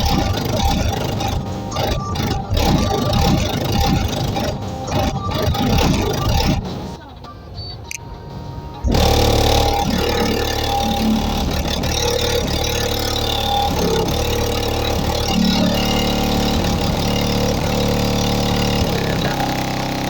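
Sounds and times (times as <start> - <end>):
subwoofer pounding heavy bass: 0.0 - 7.0, 8.9 - 20.0.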